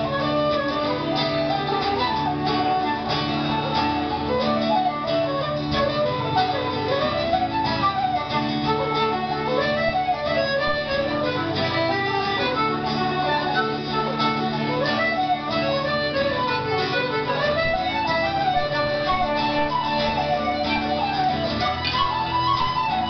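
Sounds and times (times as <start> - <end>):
accordion: 0.0 - 23.0
flute melody: 0.0 - 23.0
guitar chords: 0.0 - 23.0.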